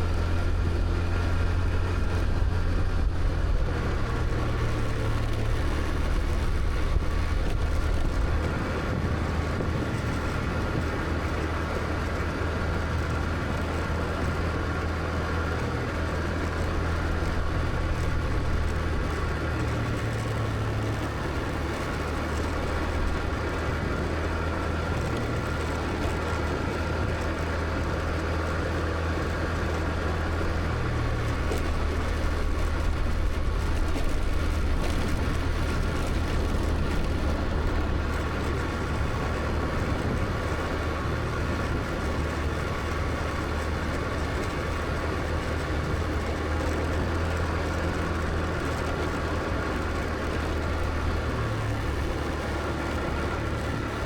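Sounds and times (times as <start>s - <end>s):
road and wind noise: 0.0s - 54.0s
scooter engine hum: 0.0s - 54.0s.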